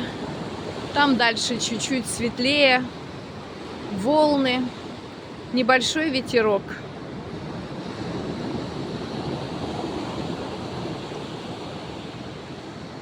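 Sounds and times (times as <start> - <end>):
sea surf washing on shore: 0.0 - 13.0
wind on microphone: 0.0 - 13.0.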